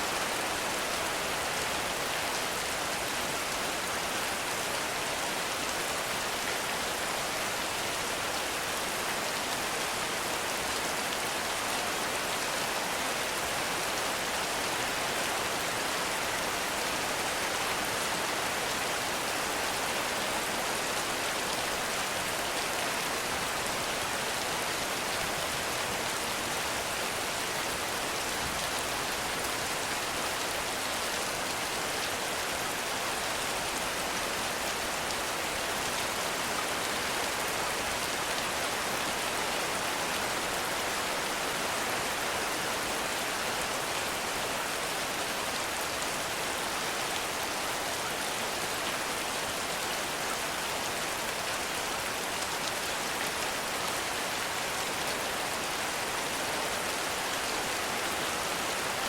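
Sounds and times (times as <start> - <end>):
heavy rain on foliage: 0.0 - 59.0.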